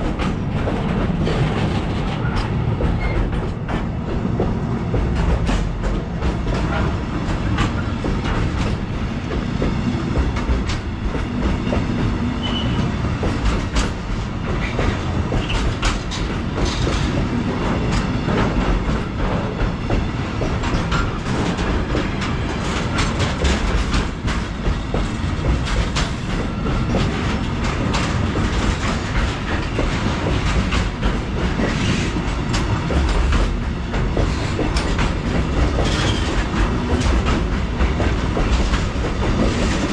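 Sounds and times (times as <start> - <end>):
train wheels rumbling and clicking: 0.0 - 39.9.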